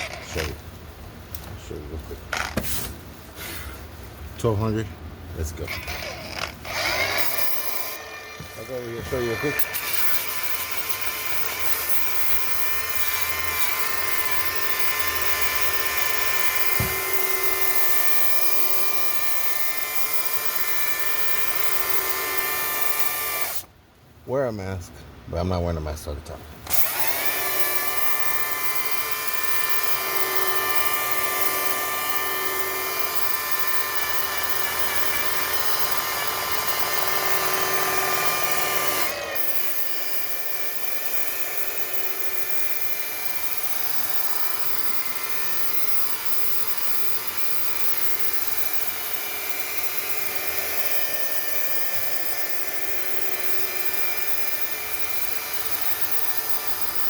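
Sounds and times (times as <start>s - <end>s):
abrasive disc rasping on filler: 0.0s - 0.7s, 5.6s - 23.7s, 26.7s - 57.0s
polisher motor whine: 5.8s - 23.7s, 26.7s - 57.0s.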